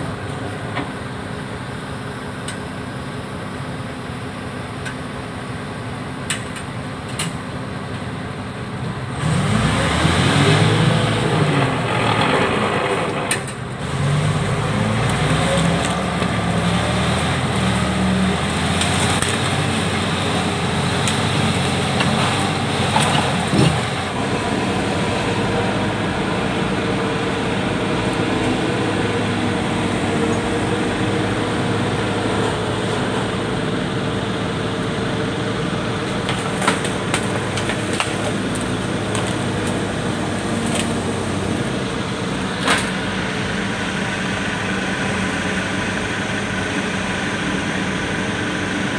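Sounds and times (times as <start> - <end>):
diesel engine revving: 8.9 - 48.9.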